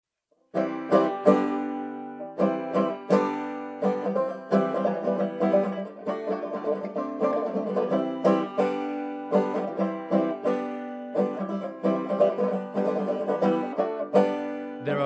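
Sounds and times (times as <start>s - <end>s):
plucked string instrument music: 0.5s - 15.0s.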